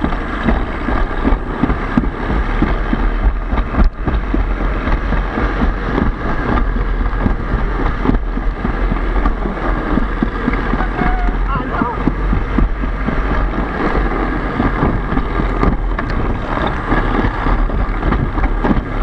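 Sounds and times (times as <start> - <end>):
sled rumbling and clattering: 0.0 - 19.0
wind buffeting microphone: 0.0 - 19.0.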